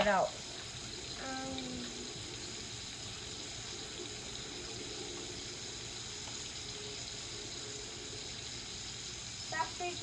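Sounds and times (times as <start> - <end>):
bacon and sausages sizzling: 0.0 - 10.0.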